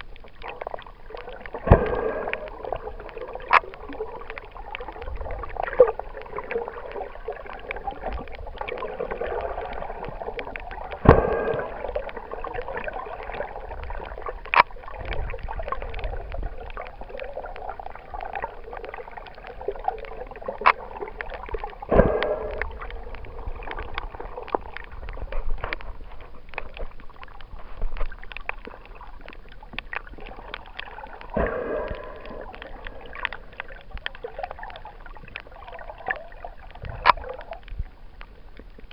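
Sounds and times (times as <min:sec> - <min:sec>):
small clicks underwater: 0:00.0 - 0:38.9
underwater watery rush: 0:00.0 - 0:38.9
water surges: 0:00.0 - 0:38.9.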